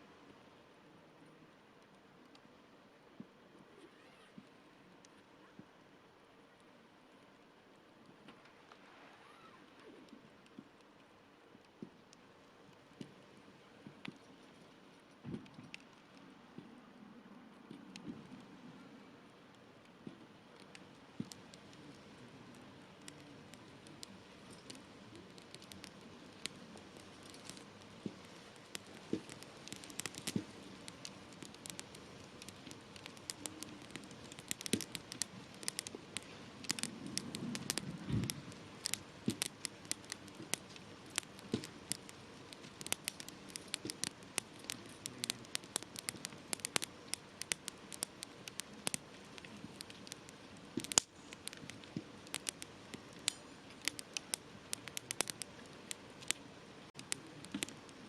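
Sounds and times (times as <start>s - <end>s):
faint hiss: 0.0s - 58.0s
campfire crackling and popping: 1.4s - 58.0s.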